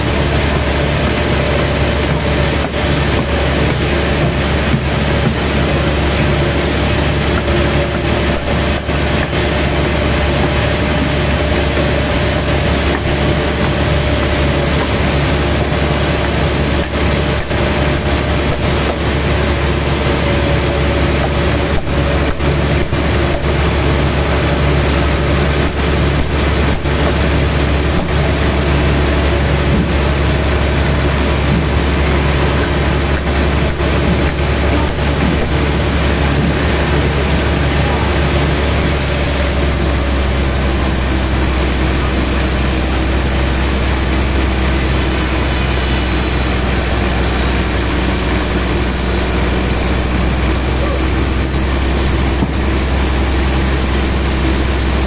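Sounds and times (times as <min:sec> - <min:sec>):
sawmill machinery drone: 0:00.0 - 0:55.0.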